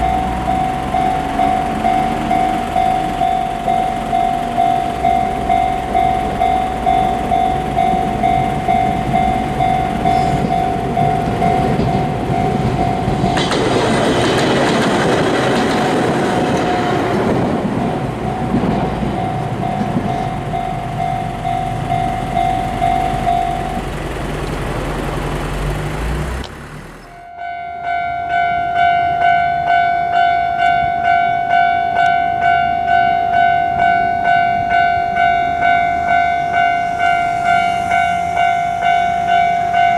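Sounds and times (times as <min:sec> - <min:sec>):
higher brighter crossing bell: 0:00.0 - 0:14.8, 0:15.6 - 0:24.1, 0:27.2 - 0:39.9
railway crossing bell dinging: 0:00.0 - 0:26.2, 0:26.9 - 0:39.9
electric train rumble and wheel clatter: 0:00.0 - 0:39.9.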